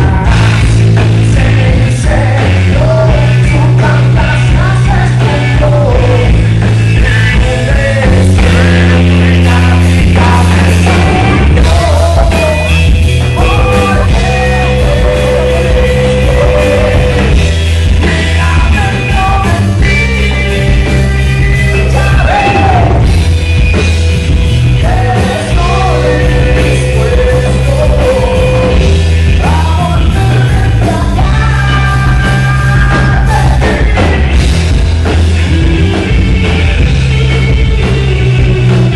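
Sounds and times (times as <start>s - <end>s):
man singing into microphone: 0.0s - 23.1s, 24.8s - 34.4s
electric guitar: 0.0s - 38.9s.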